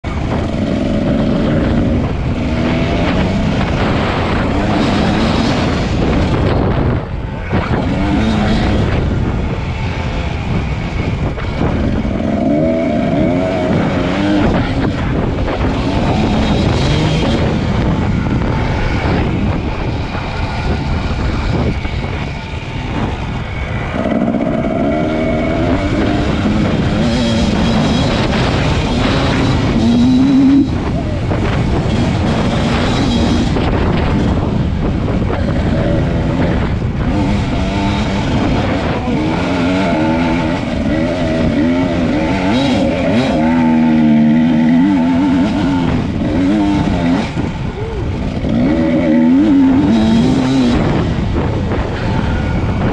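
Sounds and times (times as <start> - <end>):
motorcycle engine revving: 0.0 - 52.9
wind rushing over microphone: 0.0 - 52.9.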